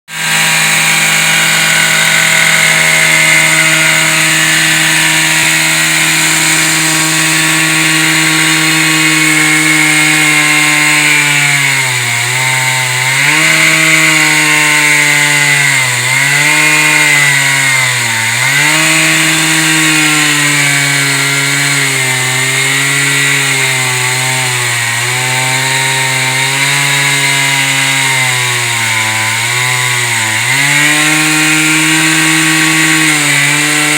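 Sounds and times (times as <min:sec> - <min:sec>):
chainsaw cutting concrete: 0:00.1 - 0:33.9.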